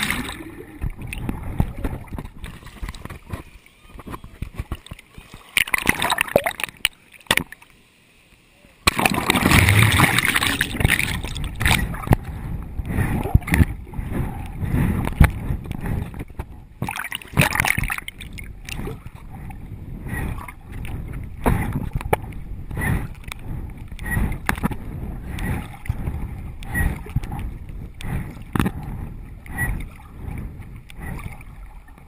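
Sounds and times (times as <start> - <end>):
water splashing and sloshing: 0.0 - 7.8, 8.8 - 32.0.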